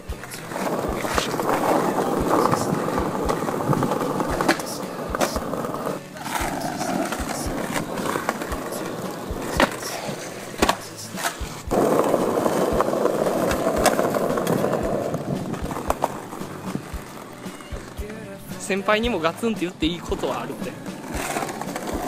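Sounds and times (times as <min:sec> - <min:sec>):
skateboard clacking on ground: 0:00.0 - 0:22.0
skateboard wheels rolling on bricks: 0:00.0 - 0:22.0.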